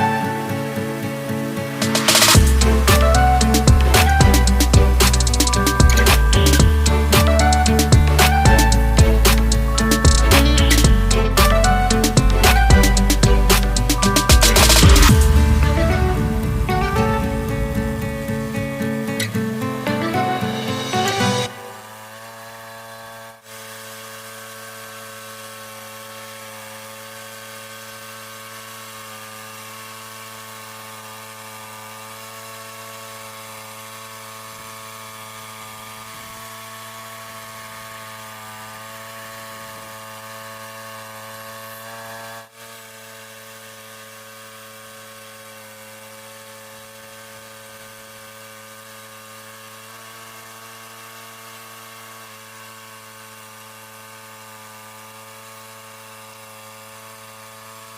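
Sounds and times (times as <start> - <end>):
bandsaw mill engine and blade drone: 0.0 - 57.9.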